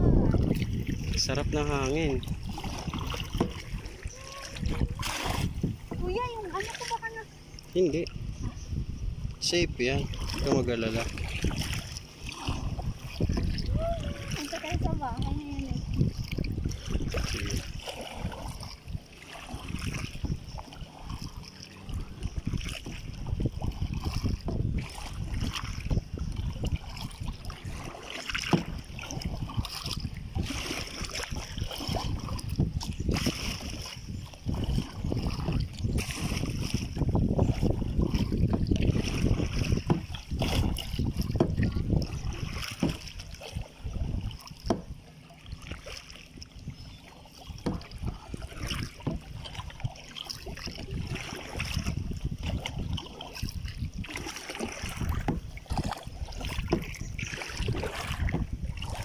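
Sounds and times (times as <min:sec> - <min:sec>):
paddle knocks and splashes: 0:00.0 - 0:59.0
wind rumbling on microphone: 0:00.0 - 0:59.0.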